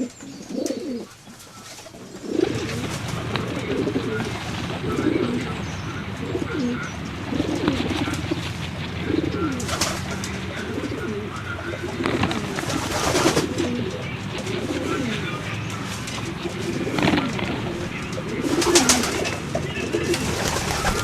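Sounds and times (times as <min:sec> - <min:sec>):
pigeons cooing: 0:00.0 - 0:21.0
loud rustling: 0:01.1 - 0:21.0.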